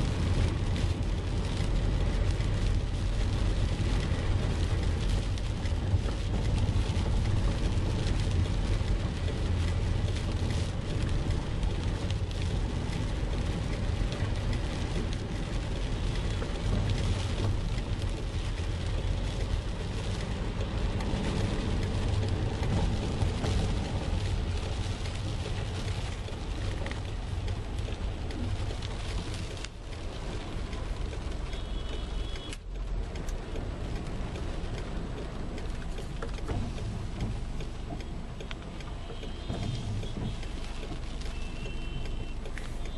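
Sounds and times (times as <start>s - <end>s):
car engine low rumble: 0.0s - 42.9s
rain on a car windscreen: 0.0s - 42.9s.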